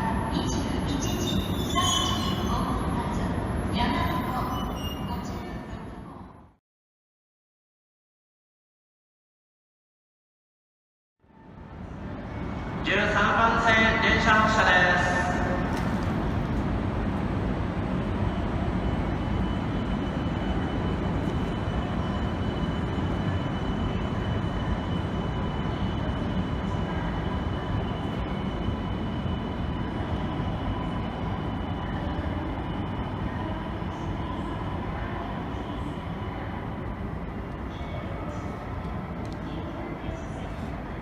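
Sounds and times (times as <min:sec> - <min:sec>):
train rumbling with faint whine: 0:00.0 - 0:06.6, 0:11.3 - 0:41.0.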